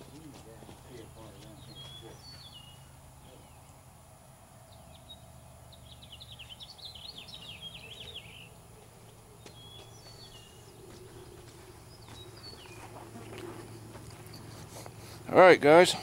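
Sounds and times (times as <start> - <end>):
birds chirping trill: 0.0 - 16.0
faint background noise: 0.0 - 16.0.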